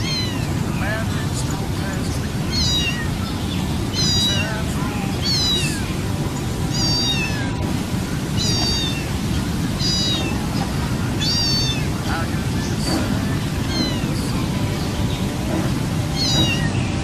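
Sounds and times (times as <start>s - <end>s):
cat meowing: 0.0s - 1.0s, 1.8s - 6.0s, 6.6s - 14.4s, 16.0s - 17.0s
steady low rumble: 0.0s - 17.0s.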